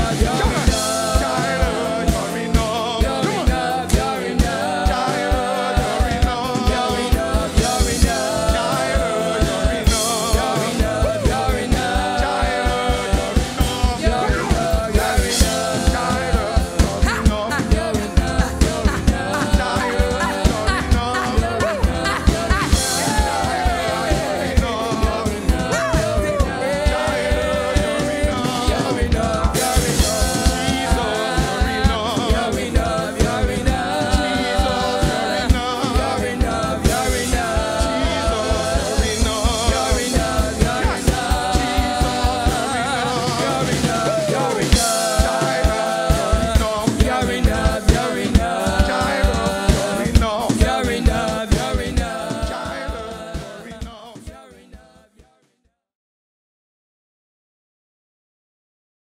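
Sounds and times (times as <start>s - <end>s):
backing instruments with steady beat: 0.0s - 54.4s
gospel singing: 0.0s - 55.3s.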